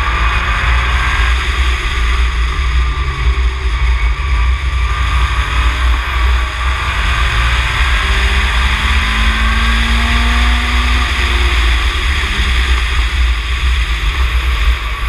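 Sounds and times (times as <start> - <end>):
faint race car engine: 0.0 - 15.0.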